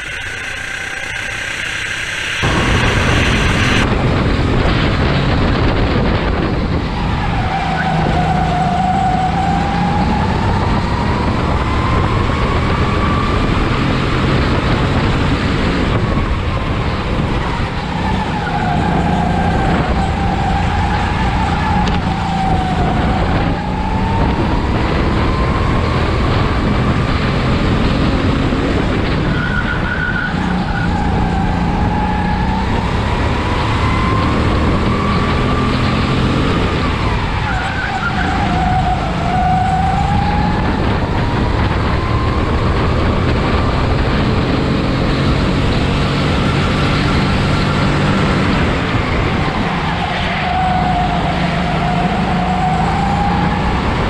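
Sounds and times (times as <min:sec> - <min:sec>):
go-kart engine revving: 0:00.0 - 0:54.0
wind and tyre noise: 0:00.0 - 0:54.0.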